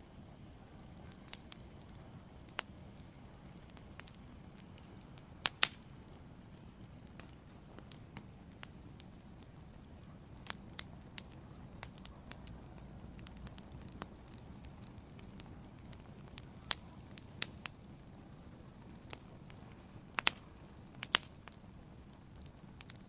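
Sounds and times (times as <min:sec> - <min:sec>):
wood fire burning: 0:00.0 - 0:23.0.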